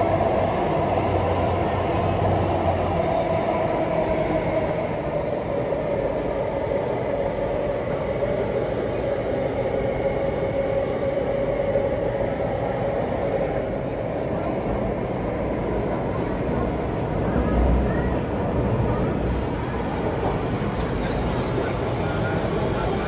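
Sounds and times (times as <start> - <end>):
train rumble with motor whine: 0.0 - 23.0.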